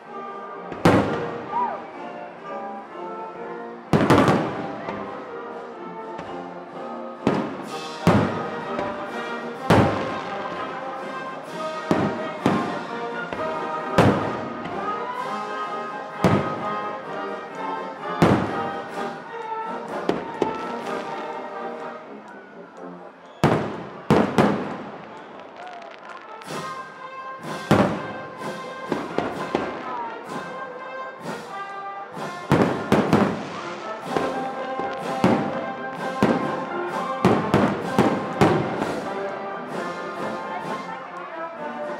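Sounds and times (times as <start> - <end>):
music: 0.0 - 41.9.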